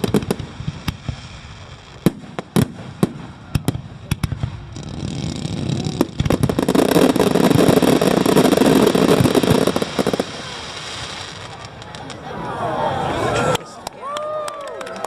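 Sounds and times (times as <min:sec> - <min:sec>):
firework bangs: 0:00.0 - 0:12.3
fireworks crackling barrage: 0:00.0 - 0:14.0.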